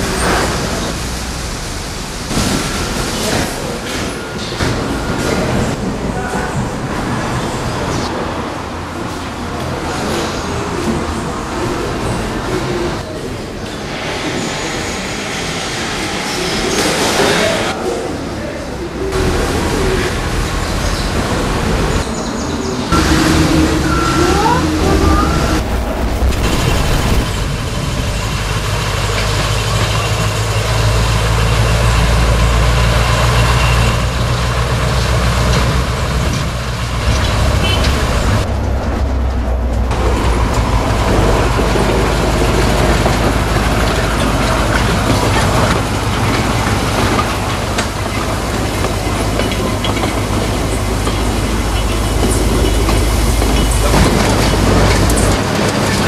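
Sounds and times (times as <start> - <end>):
locomotive engine drone: 0.0 - 56.0
wheels rumbling on rails: 0.0 - 56.0.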